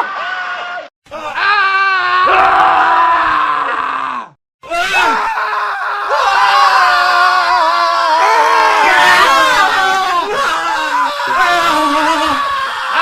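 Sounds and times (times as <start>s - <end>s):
men screaming: 0.0s - 13.0s.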